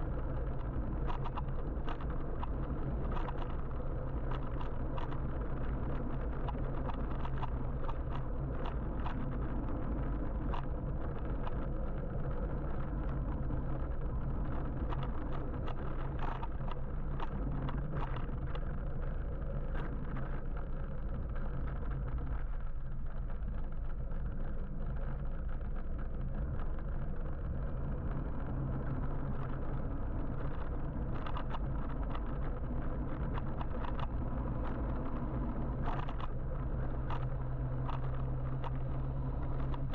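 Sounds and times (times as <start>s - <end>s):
road and traffic rumble: 0.0s - 39.9s
small ticks and rattles: 0.0s - 39.9s.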